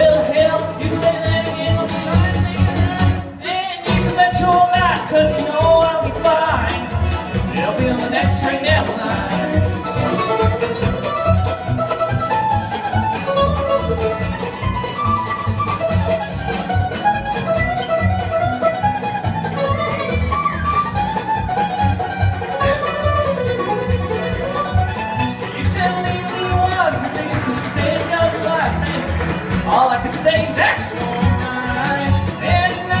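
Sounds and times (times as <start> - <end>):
bluegrass band instrumental: 0.0 - 33.0.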